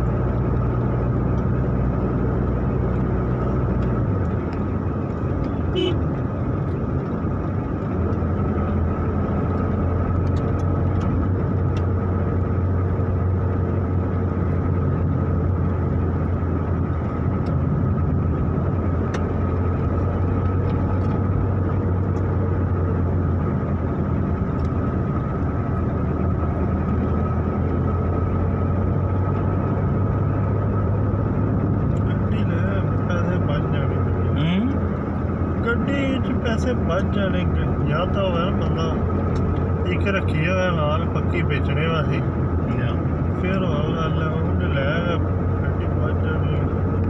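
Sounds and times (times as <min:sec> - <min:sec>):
car engine and road drone: 0:00.0 - 0:47.0.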